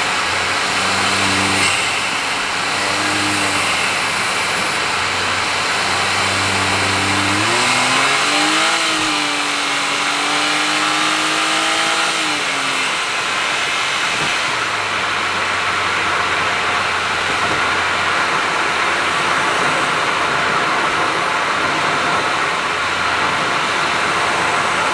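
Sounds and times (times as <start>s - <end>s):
car engine: 0.0s - 24.9s
road and tyre noise: 0.0s - 24.9s.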